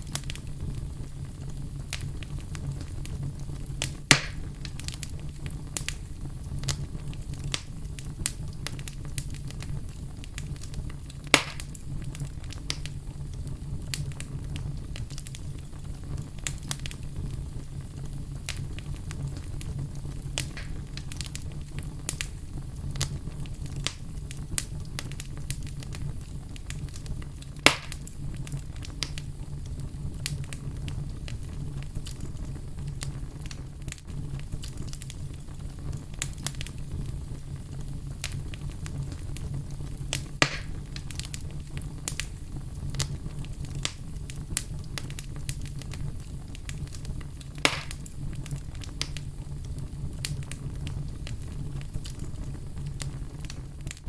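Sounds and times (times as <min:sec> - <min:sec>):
loud fire pops: 0:00.0 - 0:54.0
low fire rumble: 0:00.0 - 0:54.0
wood fire crackling: 0:00.0 - 0:54.0.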